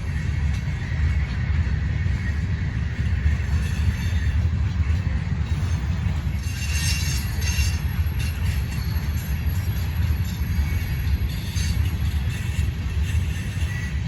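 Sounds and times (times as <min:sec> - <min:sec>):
train cars rumbling on track: 0:00.0 - 0:14.0.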